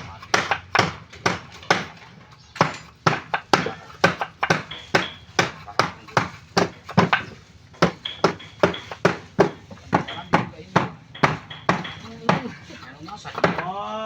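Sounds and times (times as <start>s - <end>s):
hand tool striking timber: 0.0s - 13.8s.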